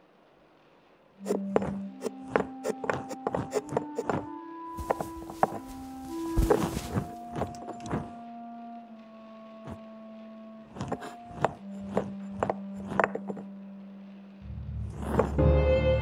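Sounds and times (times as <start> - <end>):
soft held music notes: 0.0 - 16.0.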